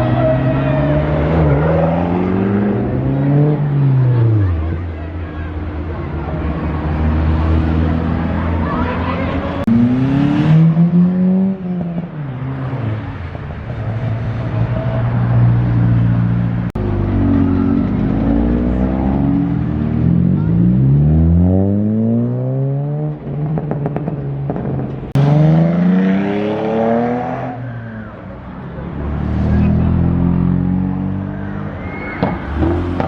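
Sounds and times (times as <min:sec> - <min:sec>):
vehicle engines revving: 0:00.0 - 0:33.0.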